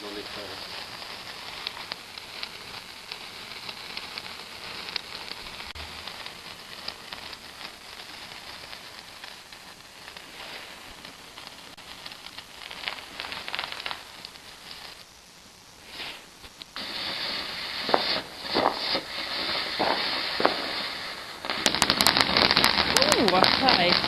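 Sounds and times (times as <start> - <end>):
firework fountain hissing and crackling: 0.0 - 24.0.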